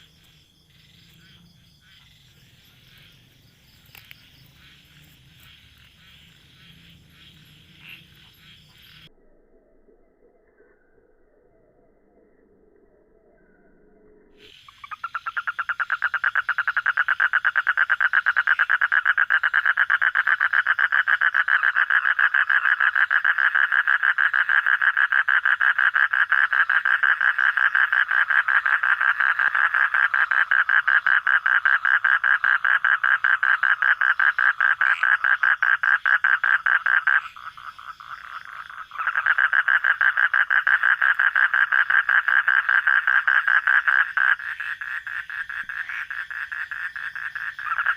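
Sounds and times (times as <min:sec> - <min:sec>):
frog trilling: 0:00.0 - 0:09.1, 0:14.4 - 0:47.9.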